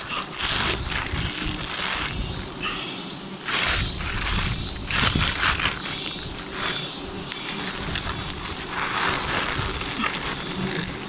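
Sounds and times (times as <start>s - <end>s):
plastic bag crinkling: 0.0s - 2.8s, 3.5s - 11.0s
insect calling in high pulses: 0.0s - 11.0s.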